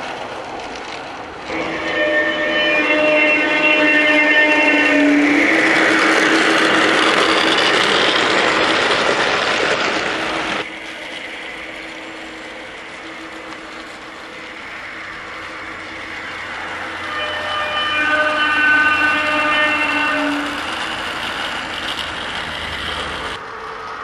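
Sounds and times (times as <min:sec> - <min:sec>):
model train motor whirring: 0:00.0 - 0:23.4
wheels on track: 0:00.0 - 0:24.0.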